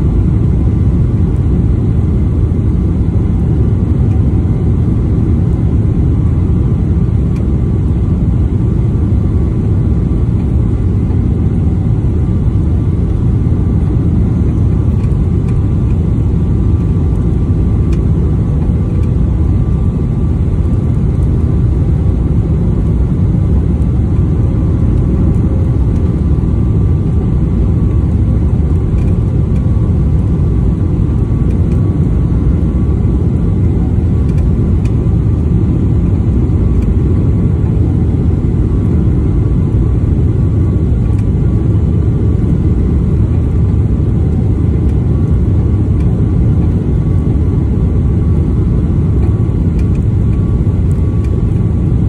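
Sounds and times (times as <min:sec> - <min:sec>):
faint steady whine: 0:00.0 - 0:52.0
jet cabin roar: 0:00.0 - 0:52.0.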